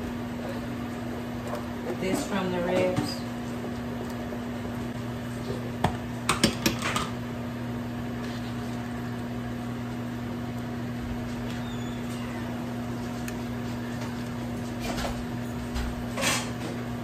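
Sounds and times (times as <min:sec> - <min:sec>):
kitchen appliance humming: 0:00.0 - 0:17.0.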